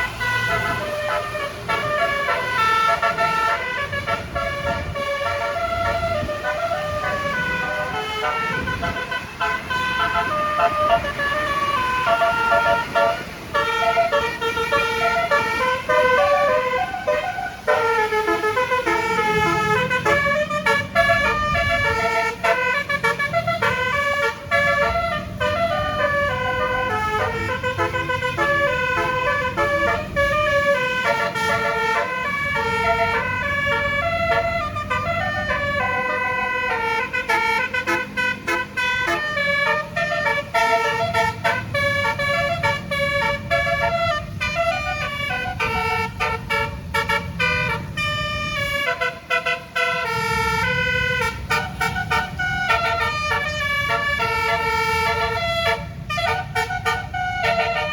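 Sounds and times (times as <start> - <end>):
musical bus horn melody: 0.0 - 57.9.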